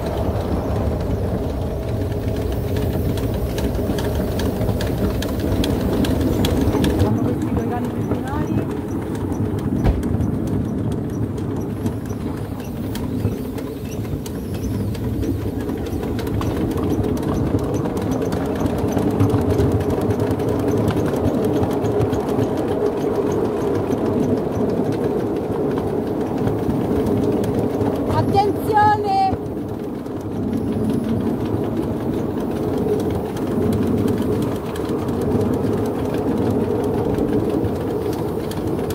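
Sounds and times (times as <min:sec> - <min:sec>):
steam locomotive chuffing: 0:00.0 - 0:38.9
wheels clattering on track: 0:00.0 - 0:38.9.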